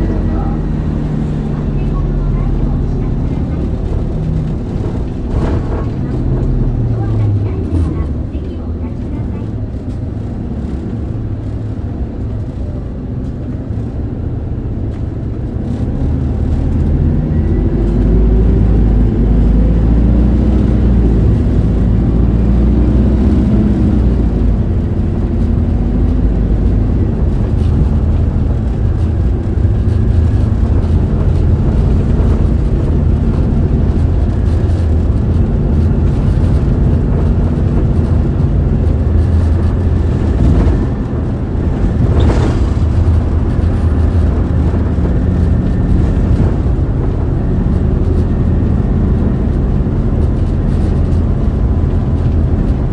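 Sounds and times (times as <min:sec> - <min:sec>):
bus diesel engine: 0:00.0 - 0:52.9
road noise: 0:00.0 - 0:52.9.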